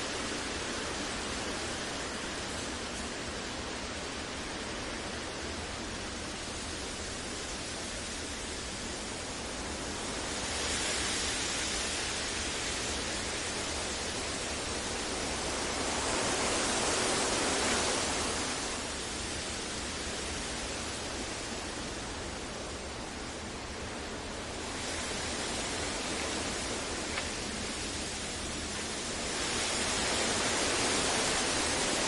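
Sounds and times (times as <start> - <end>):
synthetic hiss noise: 5.6 - 32.0.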